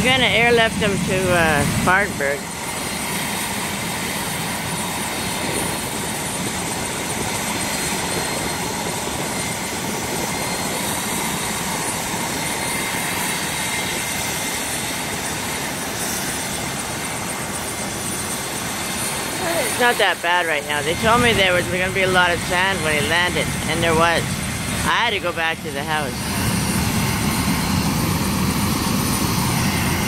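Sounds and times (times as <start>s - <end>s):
helicopter turbine whine: 0.0s - 30.0s.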